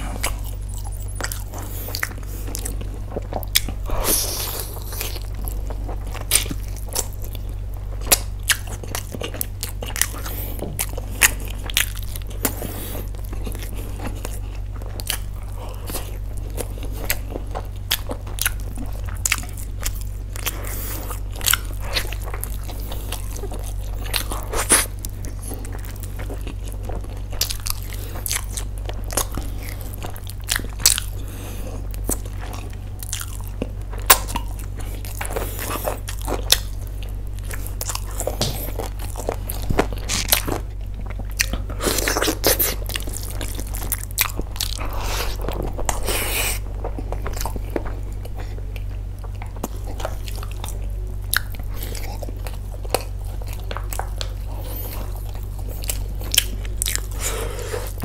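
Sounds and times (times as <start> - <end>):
chewing and biting chicken: 0.0 - 58.0.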